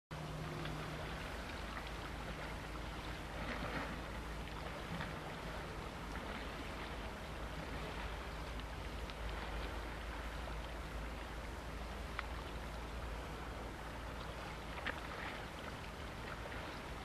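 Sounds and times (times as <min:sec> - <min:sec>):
small waves hissing: 0:00.2 - 0:17.0
wind rumble on microphone: 0:00.2 - 0:17.0.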